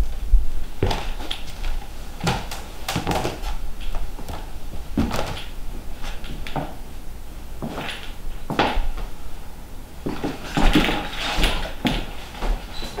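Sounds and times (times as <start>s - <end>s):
footsteps in a room: 0.0s - 13.0s.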